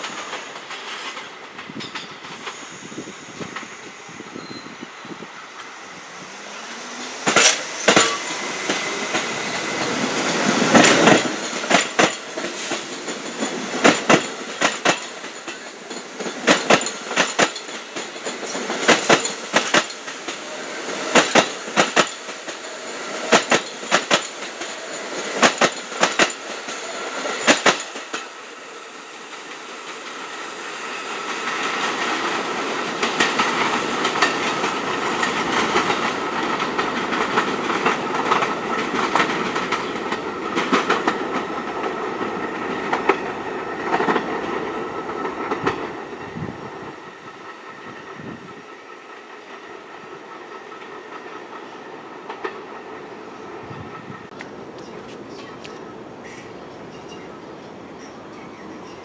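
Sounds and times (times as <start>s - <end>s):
train wheels clacking on rails: 0.0s - 4.6s, 5.4s - 59.0s
approaching train hum: 0.0s - 59.0s.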